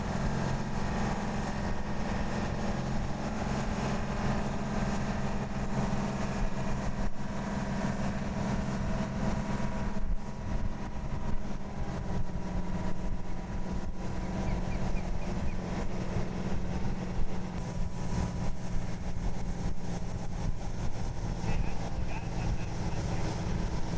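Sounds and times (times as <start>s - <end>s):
large vehicle engine humming: 0.0s - 23.9s.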